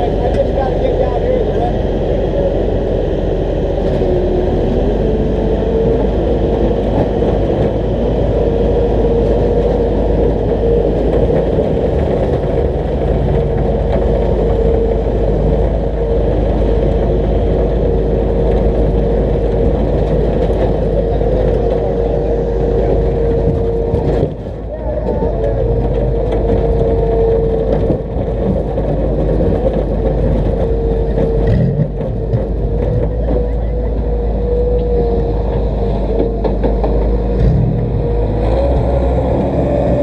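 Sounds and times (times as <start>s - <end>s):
car engine running at low revs: 0.0s - 40.0s.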